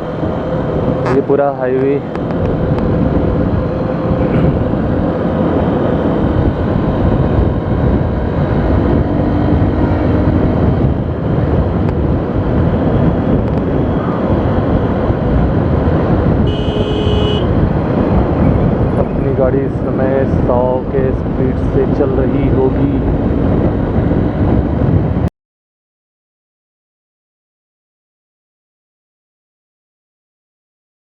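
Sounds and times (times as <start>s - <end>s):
car road and wind noise: 0.0s - 25.3s.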